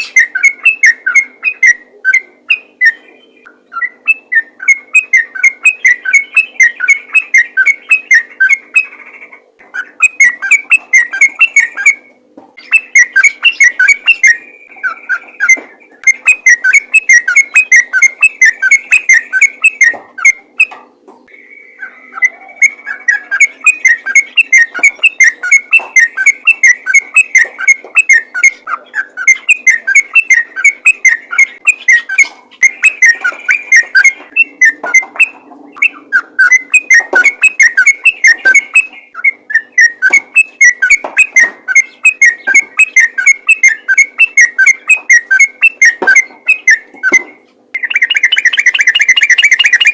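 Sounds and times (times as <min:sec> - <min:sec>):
bird singing whistled notes: 0:00.0 - 0:09.1, 0:09.8 - 0:20.7, 0:21.3 - 0:49.9.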